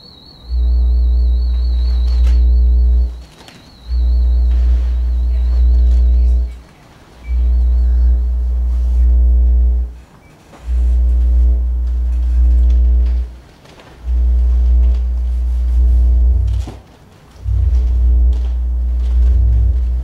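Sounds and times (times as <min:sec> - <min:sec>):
deep bass sine tone: 0:00.0 - 0:06.6, 0:07.2 - 0:10.0, 0:10.6 - 0:13.4, 0:14.0 - 0:16.8, 0:17.4 - 0:20.0
higher steady tones: 0:00.2 - 0:03.2, 0:03.8 - 0:06.6, 0:07.3 - 0:10.0, 0:10.7 - 0:13.3, 0:14.0 - 0:16.7, 0:17.4 - 0:20.0.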